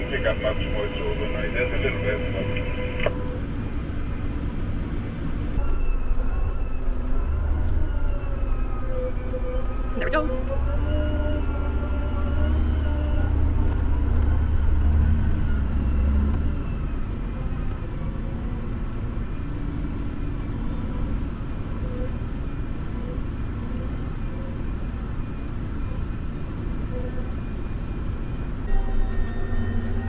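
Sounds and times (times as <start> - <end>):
tractor engine droning: 0.0 - 5.7, 10.1 - 30.0.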